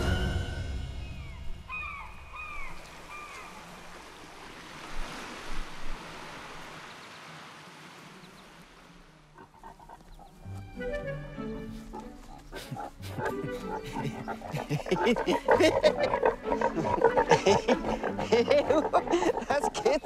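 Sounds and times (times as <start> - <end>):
seabird calling: 1.0 - 5.2, 8.1 - 20.0
sea waves washing: 1.6 - 10.0, 12.0 - 20.0.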